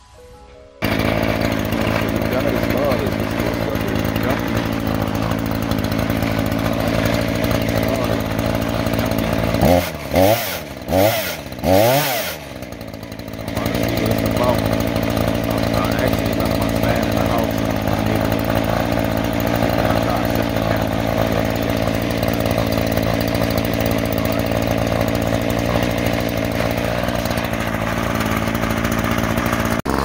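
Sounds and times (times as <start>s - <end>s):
chainsaw running: 0.8s - 30.0s.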